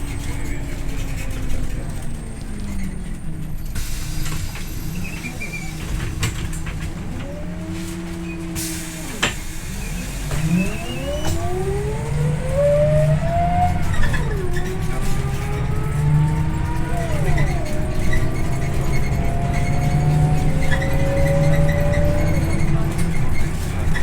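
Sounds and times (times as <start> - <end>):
bus engine rumbling: 0.0 - 24.0
drivetrain whine: 0.0 - 24.0.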